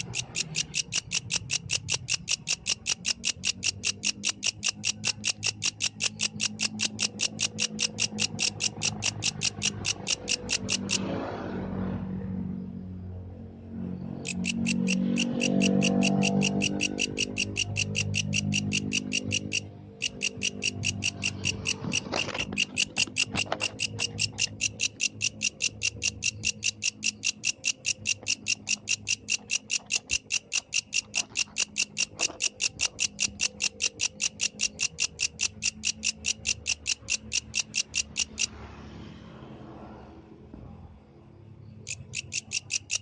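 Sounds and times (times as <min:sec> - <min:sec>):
grasshopper chirping: 0:00.0 - 0:11.3, 0:14.0 - 0:38.9, 0:41.8 - 0:43.0.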